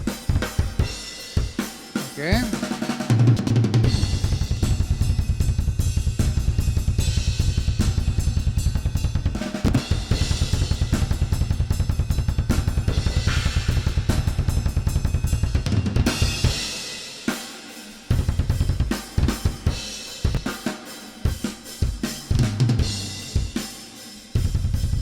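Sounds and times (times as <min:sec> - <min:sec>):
metal drum track: 0:00.0 - 0:25.0.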